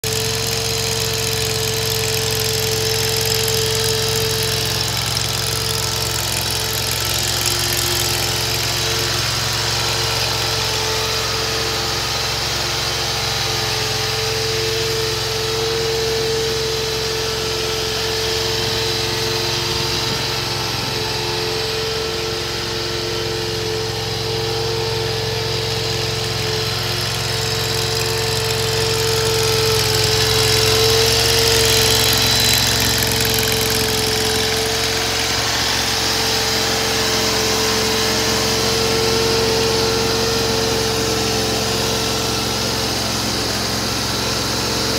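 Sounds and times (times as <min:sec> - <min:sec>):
small engine humming: 0:00.0 - 0:44.9.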